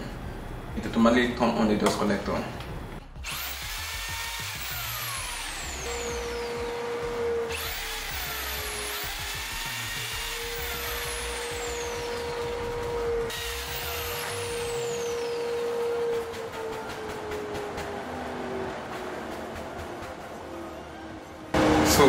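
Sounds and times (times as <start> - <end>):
jigsaw and dust collector running: 3.2 - 20.6, 21.6 - 22.0.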